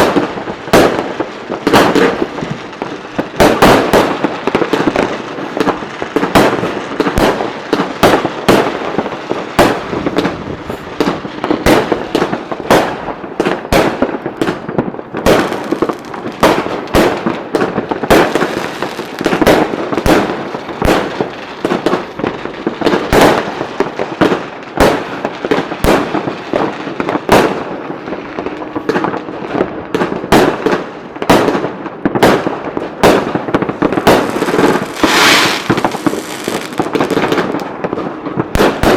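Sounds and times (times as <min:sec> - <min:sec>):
fireworks bangs: 0:00.0 - 0:38.9
fireworks crackling: 0:00.0 - 0:38.9.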